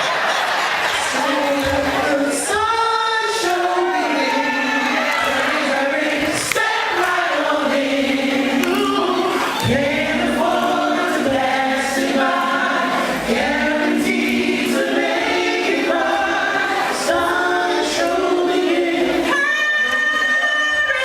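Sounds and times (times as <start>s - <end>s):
vocal group singing in harmony: 0.0s - 21.0s.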